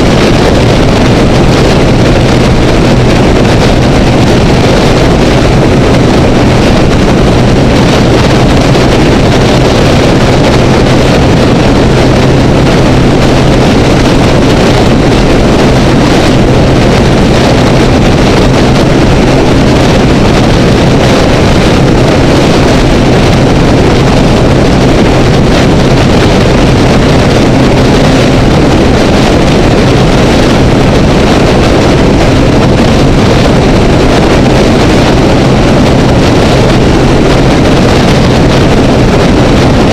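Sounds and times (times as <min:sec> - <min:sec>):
motorcycle engine drone: 0:00.0 - 0:39.9
road noise: 0:00.0 - 0:39.9
wind rush on microphone: 0:00.0 - 0:39.9.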